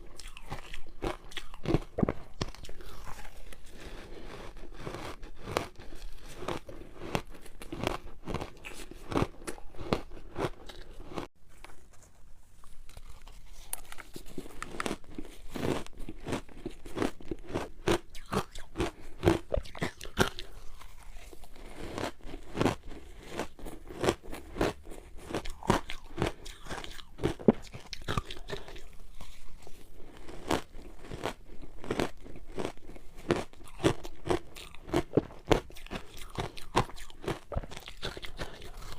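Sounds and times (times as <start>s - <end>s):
chewing ice: 0.0s - 11.3s, 12.7s - 38.9s.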